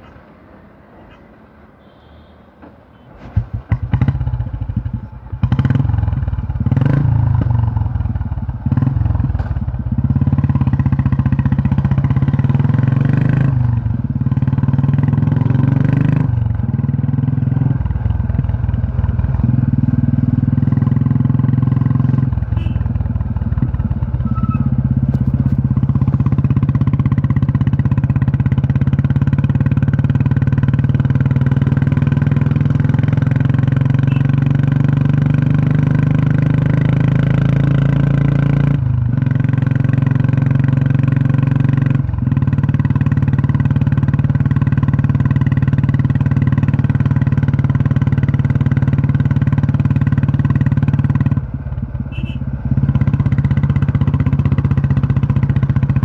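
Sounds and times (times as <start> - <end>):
motorcycle engine revving and thumping: 2.6 - 56.0.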